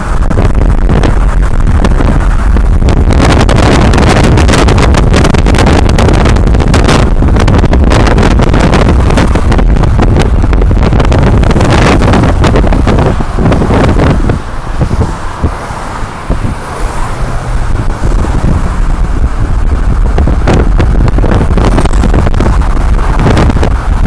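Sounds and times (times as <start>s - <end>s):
road noise rumble: 0.0s - 24.0s
wind buffeting microphone: 0.0s - 24.0s.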